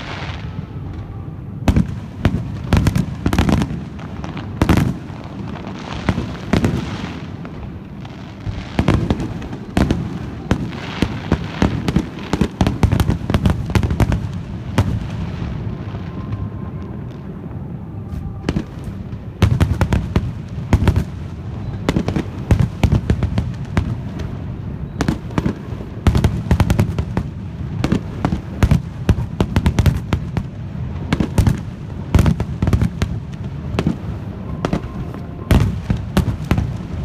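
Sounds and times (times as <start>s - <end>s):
fireworks sharp bangs: 0.0s - 37.0s.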